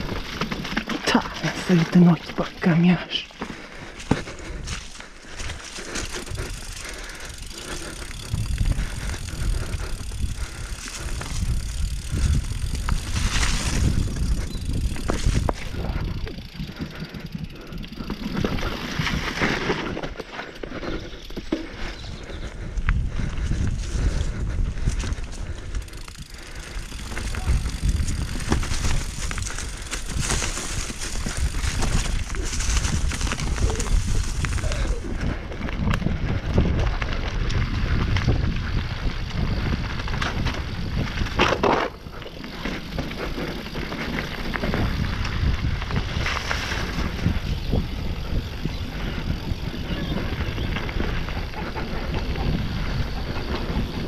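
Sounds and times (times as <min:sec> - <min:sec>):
wind rumbling on microphone: 0:00.0 - 0:02.9, 0:03.5 - 0:54.0
bike rattling over bumps: 0:00.0 - 0:54.0
tyres on dirt and stones: 0:00.0 - 0:54.0.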